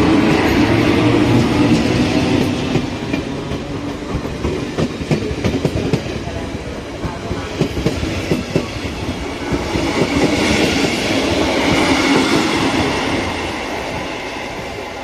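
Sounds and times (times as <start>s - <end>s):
train rumble: 0.0s - 15.0s
train wheels clacking on rails: 0.0s - 15.0s.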